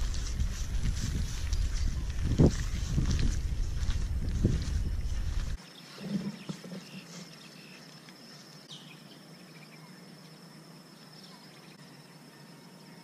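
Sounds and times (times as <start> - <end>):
high-pitched insect trill: 0.0 - 6.0, 6.8 - 13.0.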